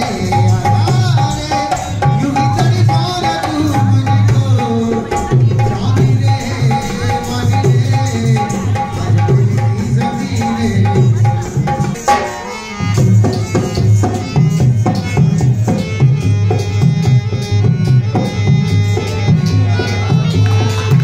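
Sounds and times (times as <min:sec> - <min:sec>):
hand drum beating: 0:00.0 - 0:21.0.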